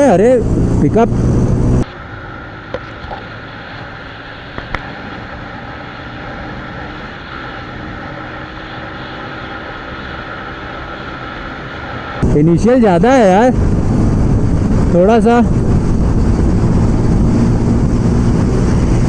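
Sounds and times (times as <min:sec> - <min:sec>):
motorcycle engine running: 0:00.0 - 0:19.0
wind and road rush: 0:00.0 - 0:19.0.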